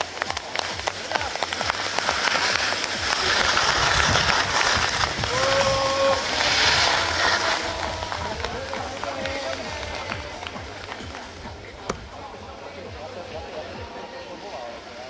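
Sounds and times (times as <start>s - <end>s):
spectators clapping and cheering: 0.0s - 12.2s.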